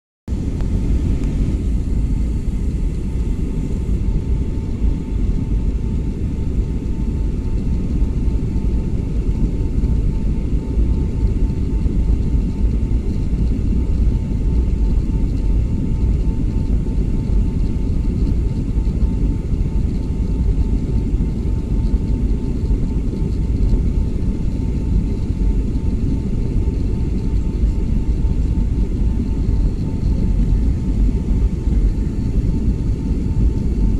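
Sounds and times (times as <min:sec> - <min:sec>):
airplane cabin engine rumble: 0:00.3 - 0:33.9
faint steady whine: 0:00.3 - 0:33.9.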